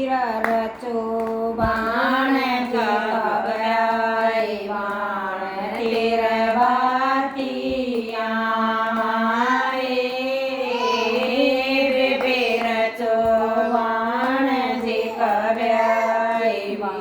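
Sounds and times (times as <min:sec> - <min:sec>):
woman singing folk song: 0:00.0 - 0:17.0.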